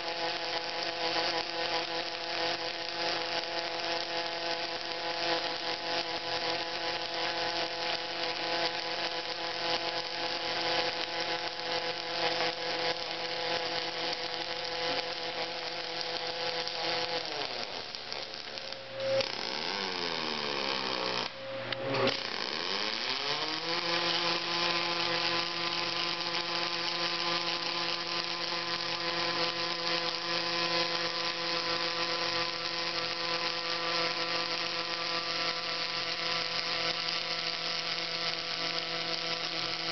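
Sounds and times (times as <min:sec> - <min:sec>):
dense welding hiss: 0:00.0 - 0:21.4, 0:22.1 - 0:39.9
machine whine: 0:00.0 - 0:39.9.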